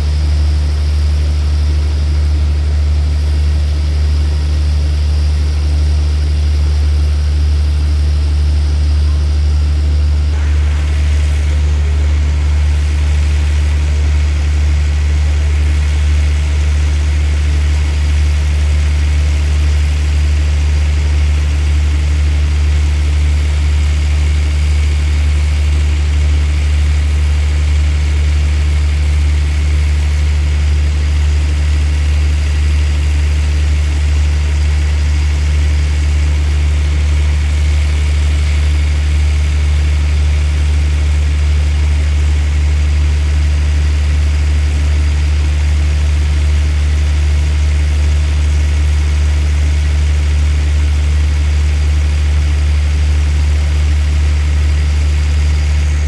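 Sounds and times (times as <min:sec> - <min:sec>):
diesel train engine idling: 0:00.0 - 0:56.0.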